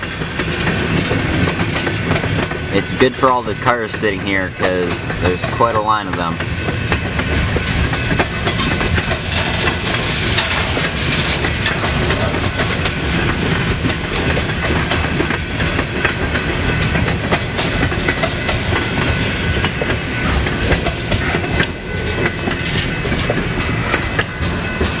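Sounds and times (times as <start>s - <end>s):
train wheels clickety-clack: 0.0s - 25.0s.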